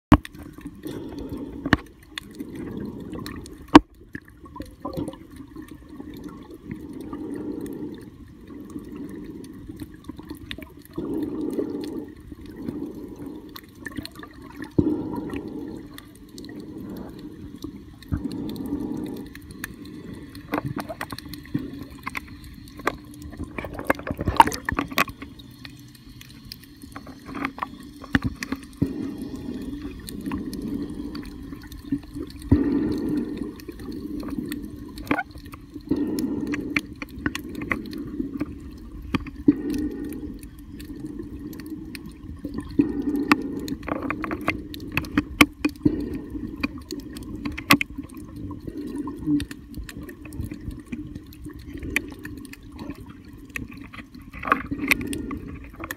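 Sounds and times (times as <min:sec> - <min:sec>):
muffled underwater rushing: 0:00.1 - 0:55.9.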